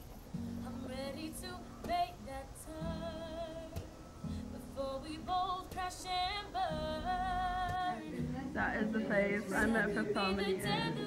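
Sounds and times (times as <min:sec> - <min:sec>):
pop music with woman singing: 0:00.6 - 0:11.0.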